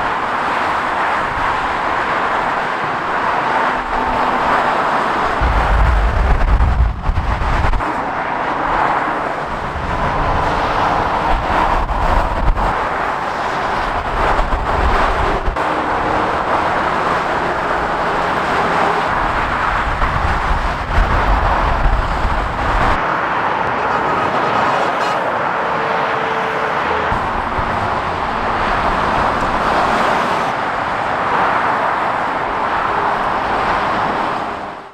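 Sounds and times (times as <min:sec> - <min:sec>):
heavy vehicles rumbling past: 0:00.0 - 0:34.9
motorway traffic: 0:00.0 - 0:34.9.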